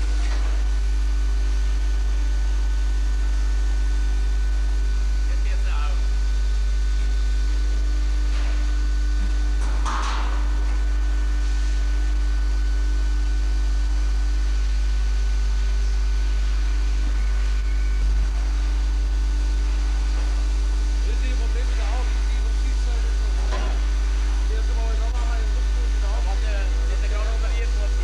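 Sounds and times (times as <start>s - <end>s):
grinding machine humming: 0.0s - 28.0s.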